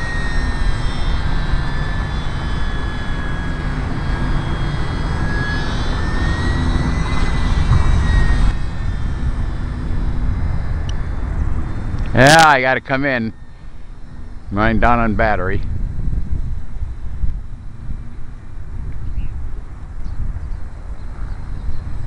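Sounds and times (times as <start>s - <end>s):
rc airplane motor whine: 0.0s - 22.0s
wind rumble on microphone: 0.0s - 22.0s.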